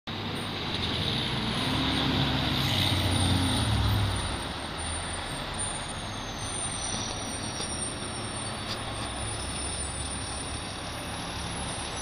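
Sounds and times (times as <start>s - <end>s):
fire engine driving past: 0.1s - 12.0s
road and tyre noise: 0.1s - 12.0s.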